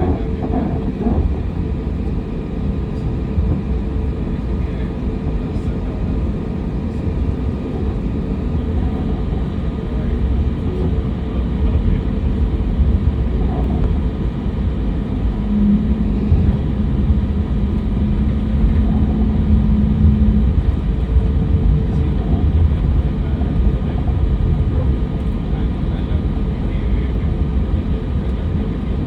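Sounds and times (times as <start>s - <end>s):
airliner cabin rumble: 0.0s - 29.0s
faint engine hum: 0.0s - 29.0s
steady hum: 0.0s - 29.0s.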